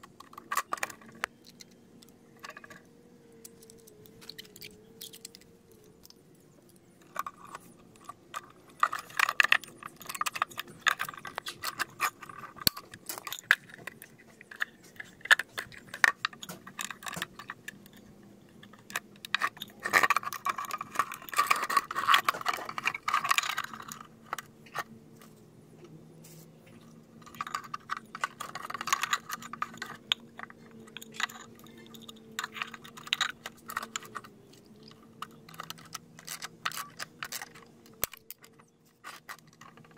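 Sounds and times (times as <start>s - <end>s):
plastic pipes clicking and scraping: 0.0s - 39.9s.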